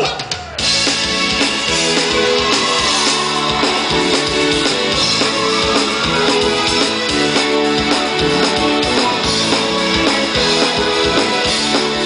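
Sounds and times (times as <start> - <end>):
drum kit beat: 0.0 - 12.0
electric guitar: 0.6 - 12.0.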